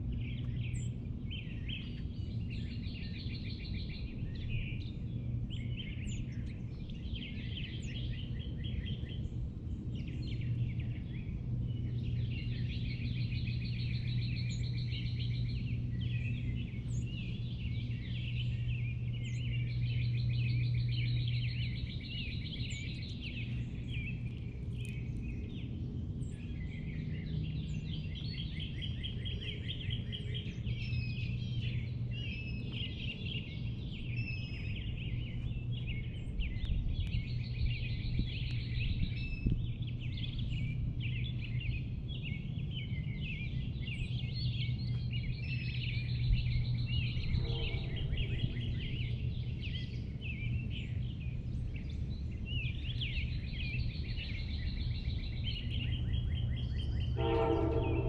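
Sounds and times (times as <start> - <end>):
low background hum: 0.0 - 58.0
songbirds chirping and trilling: 0.0 - 58.0.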